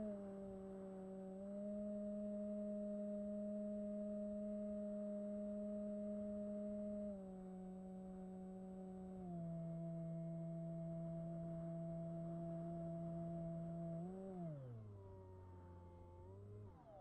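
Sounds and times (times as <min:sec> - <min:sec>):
model plane electric motor whine: 0:00.0 - 0:17.0.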